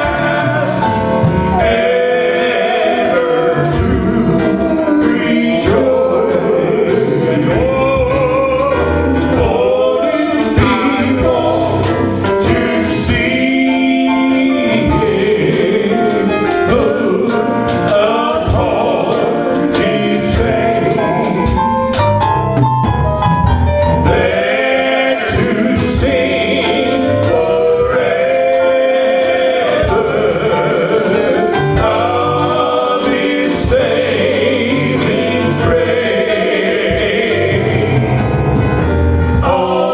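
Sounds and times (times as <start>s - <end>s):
choir singing gospel music: 0.0s - 39.9s
low bass accompaniment: 0.0s - 39.9s.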